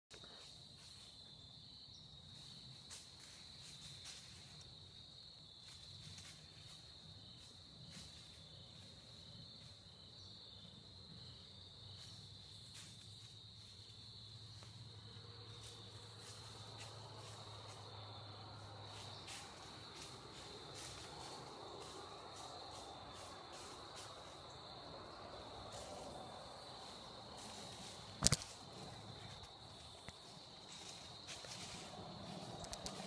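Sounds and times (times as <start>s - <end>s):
insects trilling: 0.1s - 33.0s.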